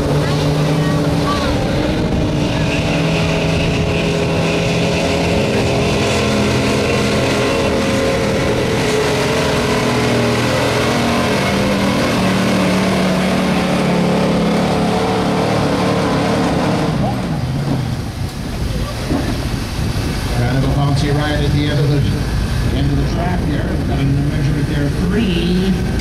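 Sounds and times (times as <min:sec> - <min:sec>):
pickup engine revving under load: 0:00.0 - 0:26.0.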